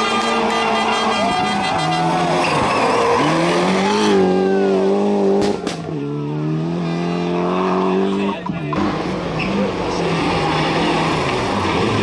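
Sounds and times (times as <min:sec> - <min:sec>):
rally car engine at high revs: 0:02.0 - 0:12.0.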